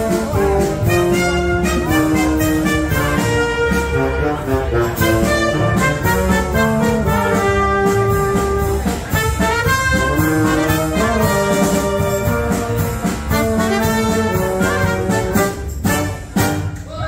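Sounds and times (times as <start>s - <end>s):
brass and saxophone melody: 0.0s - 17.0s
steady drum beat: 0.0s - 17.0s.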